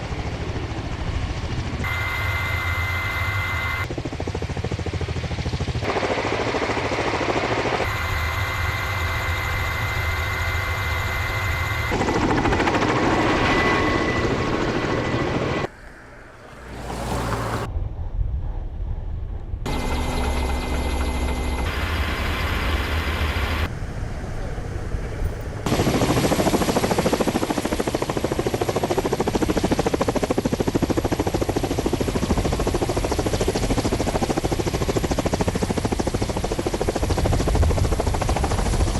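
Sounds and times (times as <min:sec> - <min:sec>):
helicopter rotor chop: 0:00.0 - 0:15.7, 0:19.6 - 0:38.9
high turbine whine: 0:00.0 - 0:38.9.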